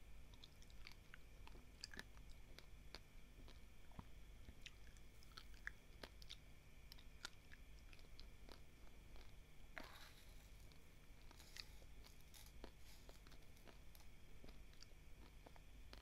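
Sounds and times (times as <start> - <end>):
dry rice being chewed: 0.3 - 16.0.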